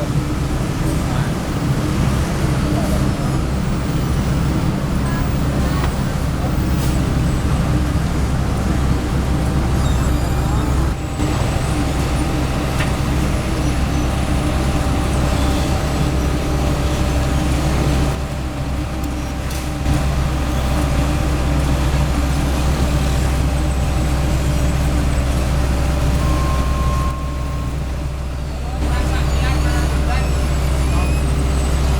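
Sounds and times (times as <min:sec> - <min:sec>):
heavy diesel machinery running: 0:00.0 - 0:31.9.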